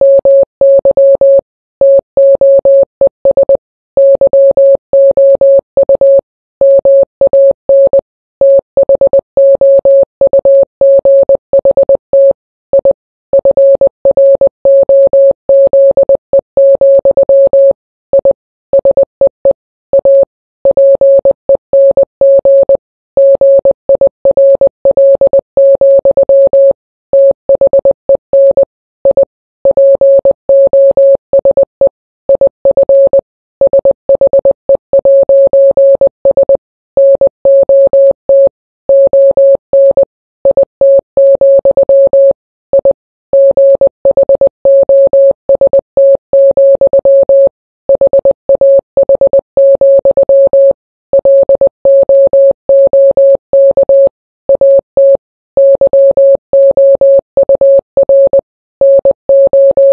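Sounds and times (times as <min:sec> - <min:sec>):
morse code beeps: 0:00.0 - 0:59.9.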